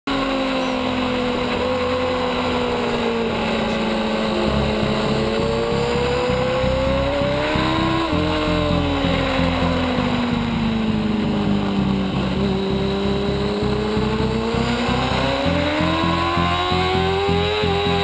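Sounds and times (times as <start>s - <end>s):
motorcycle engine at high revs: 0.1s - 18.0s.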